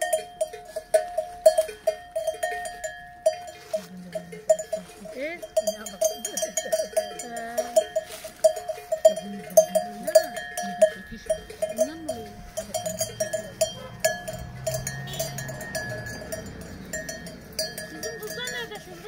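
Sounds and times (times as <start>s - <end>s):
cowbell clanking: 0.0s - 19.0s.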